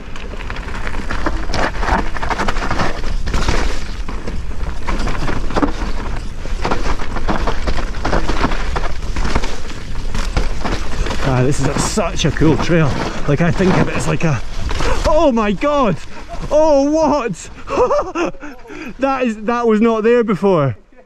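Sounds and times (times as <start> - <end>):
bike rattling on rough trail: 0.0 - 20.6.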